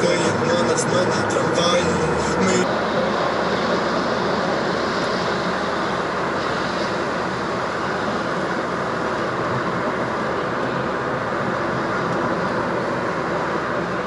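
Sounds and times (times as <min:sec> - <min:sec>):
road and tyre noise in car cabin: 0:00.0 - 0:14.0.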